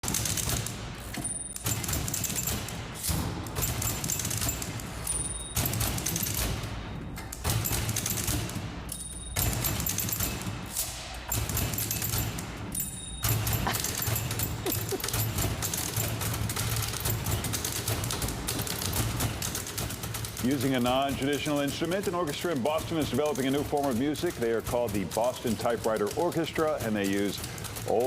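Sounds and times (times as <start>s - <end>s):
typewriter key clatter: 0.0s - 28.0s
typewriter bell dinging: 1.0s - 2.8s, 3.6s - 6.6s, 7.5s - 10.7s, 11.3s - 28.0s.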